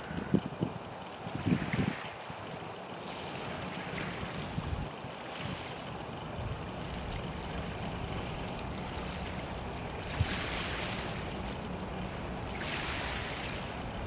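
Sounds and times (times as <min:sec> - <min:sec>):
wind buffeting microphone: 0:00.0 - 0:02.7, 0:04.2 - 0:14.0.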